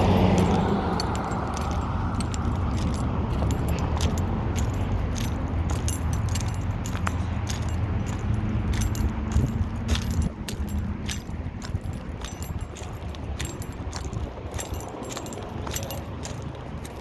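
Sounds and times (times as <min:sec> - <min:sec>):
metallic jingling and clicking: 0:00.0 - 0:17.0
steady low rumble: 0:00.0 - 0:17.0.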